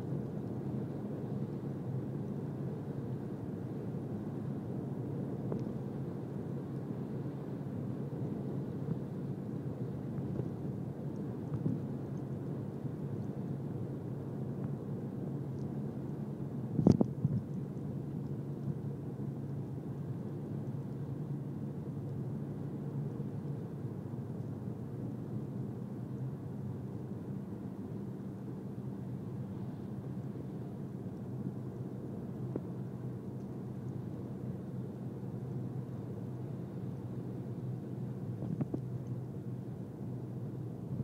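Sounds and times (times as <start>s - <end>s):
faint hum: 0.0s - 41.0s.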